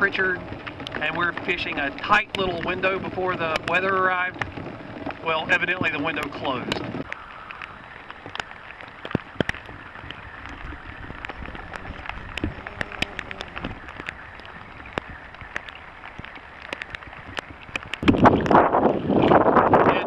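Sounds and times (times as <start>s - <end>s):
rain hiss on water: 0.0s - 20.0s
raindrops ticking on kayak: 0.0s - 20.0s.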